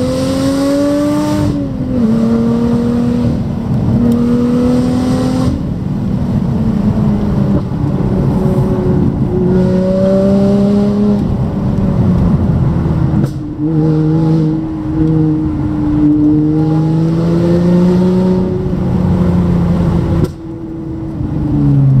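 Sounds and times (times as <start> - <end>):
car engine accelerating from cabin: 0.0 - 22.0.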